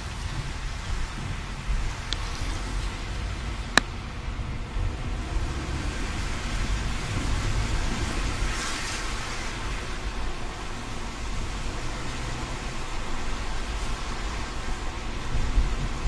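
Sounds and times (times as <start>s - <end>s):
car road and engine rumble: 0.0s - 16.0s
tyres hissing on wet tarmac: 0.0s - 16.0s
windscreen wiper swishing: 0.0s - 16.0s.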